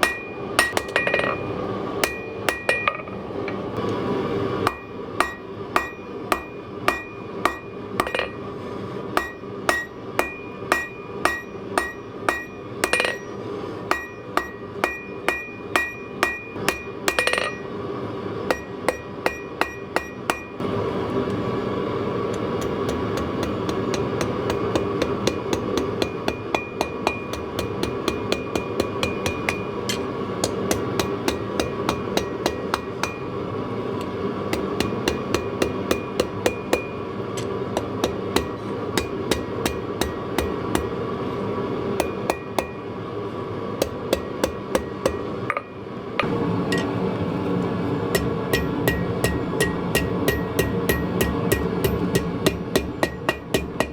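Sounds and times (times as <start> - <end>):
hammer striking metal on anvil: 0.0 - 3.2, 4.6 - 8.4, 9.2 - 17.7, 18.5 - 20.6, 22.3 - 33.4, 34.0 - 41.0, 42.0 - 42.8, 43.8 - 47.0, 48.1 - 53.9
steady background noise: 0.0 - 53.9.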